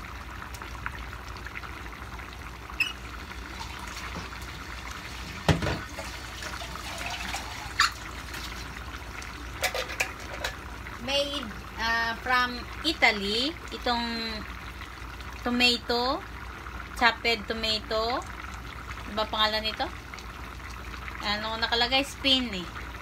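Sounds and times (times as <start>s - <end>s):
stew bubbling in a pan: 0.0s - 23.0s.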